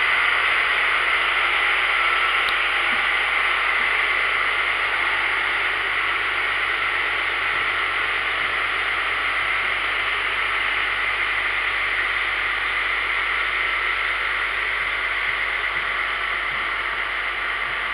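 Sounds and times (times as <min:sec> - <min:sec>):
rail mowing machine droning: 0:00.0 - 0:17.9.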